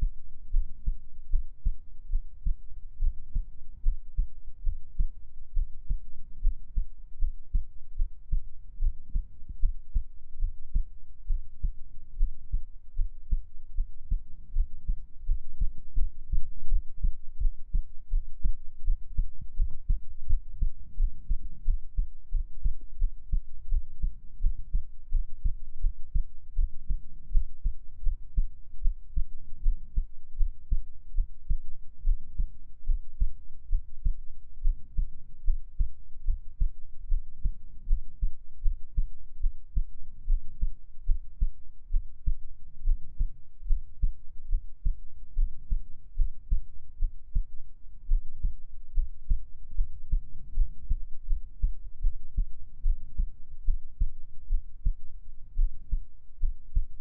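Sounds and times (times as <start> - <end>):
deep human heartbeat: 0.0 - 57.0.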